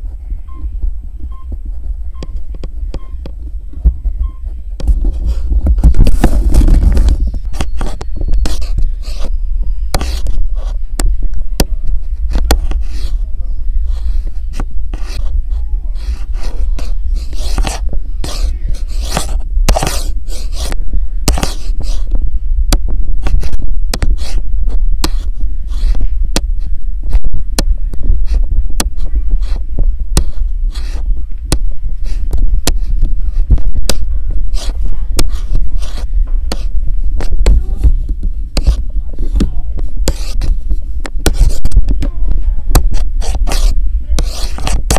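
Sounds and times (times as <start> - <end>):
constant low hum: 0.0 - 44.9
microphone handling rubbing: 0.0 - 44.9.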